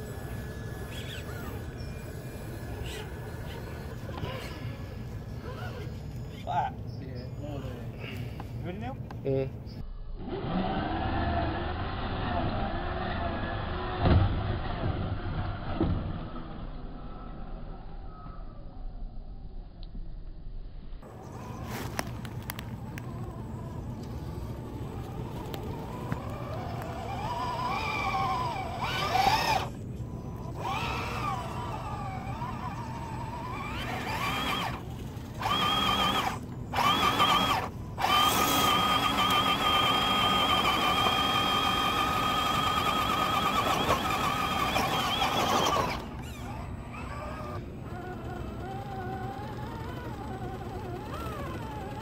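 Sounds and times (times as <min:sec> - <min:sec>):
rc truck motor whining: 0:00.0 - 0:06.5, 0:10.1 - 0:17.5, 0:21.0 - 0:52.0.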